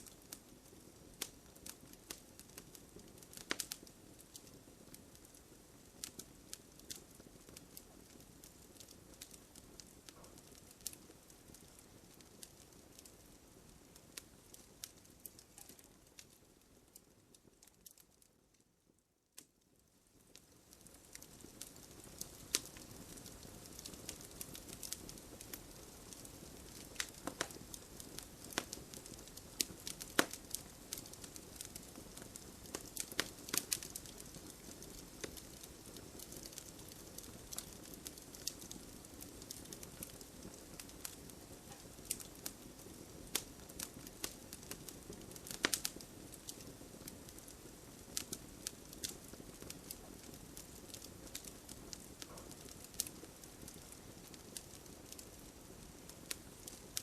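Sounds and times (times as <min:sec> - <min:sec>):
burning wood popping: 0:00.0 - 0:16.4, 0:20.3 - 0:57.0
campfire crackling: 0:00.0 - 0:57.0.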